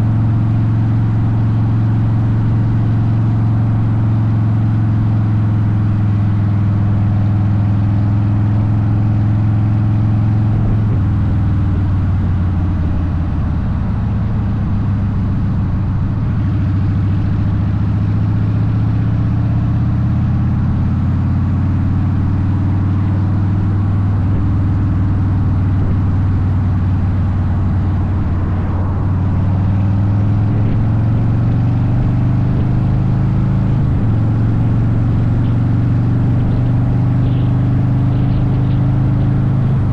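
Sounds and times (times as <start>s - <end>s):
motorcycle engine on road: 0.0s - 39.9s.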